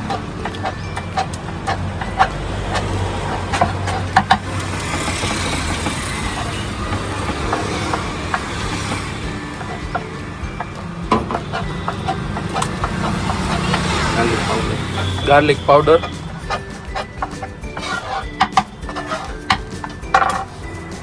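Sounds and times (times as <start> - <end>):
light clicks and knocks: 0.0 - 21.0
low street hum: 0.0 - 21.0.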